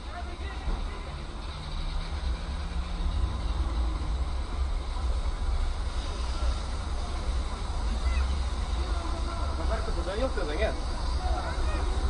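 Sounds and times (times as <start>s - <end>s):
car idling: 0.0s - 12.0s.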